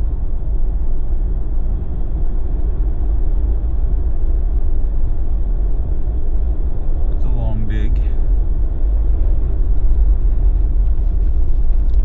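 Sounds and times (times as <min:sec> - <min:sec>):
tyres and engine rumble on snow: 0:00.0 - 0:12.0.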